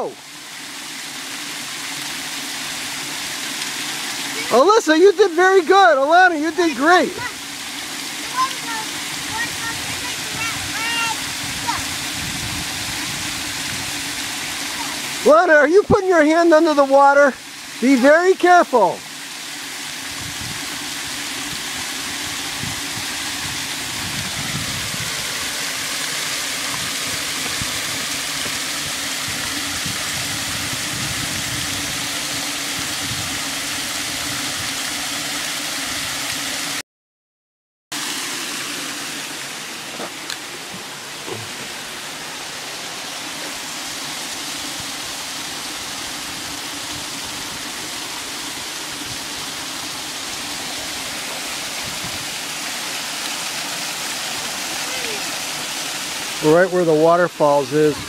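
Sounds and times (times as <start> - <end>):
waterfall rushing: 0.0 - 36.8, 38.0 - 58.0.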